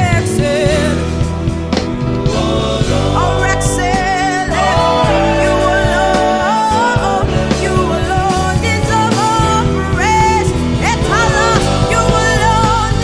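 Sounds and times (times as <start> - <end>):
slow instrumental worship music: 0.0 - 13.0.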